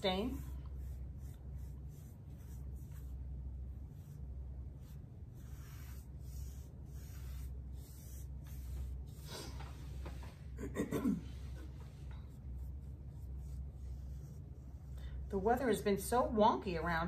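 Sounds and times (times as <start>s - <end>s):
paintbrush swishing on wood: 0.0s - 10.4s, 11.8s - 16.2s
steady low hum: 0.0s - 17.0s.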